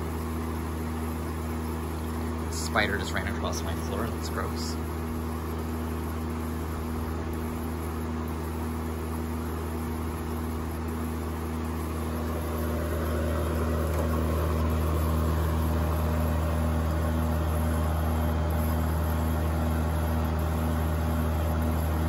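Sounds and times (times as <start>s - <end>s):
dehumidifier compressor hum: 0.0s - 22.0s
dehumidifier fan rushing: 0.0s - 22.0s.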